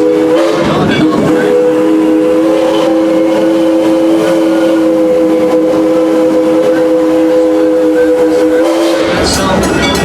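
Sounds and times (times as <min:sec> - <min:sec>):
steam locomotive chime whistle: 0:00.0 - 0:10.0.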